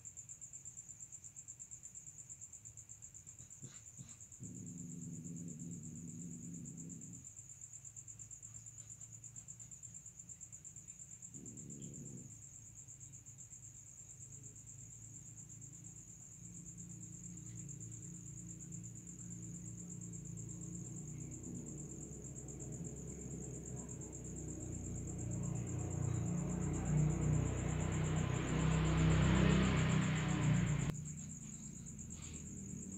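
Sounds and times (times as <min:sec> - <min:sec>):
crickets trilling: 0:00.0 - 0:32.9.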